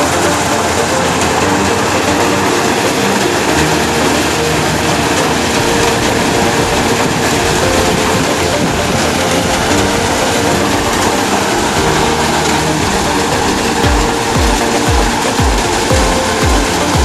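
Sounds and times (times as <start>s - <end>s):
machine engine droning: 0.0s - 17.0s.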